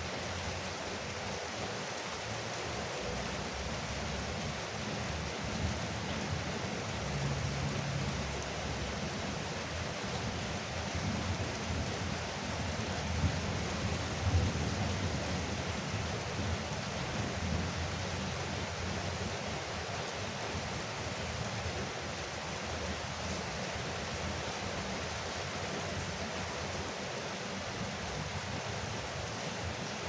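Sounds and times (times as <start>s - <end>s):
rain on a roof: 0.0s - 30.0s.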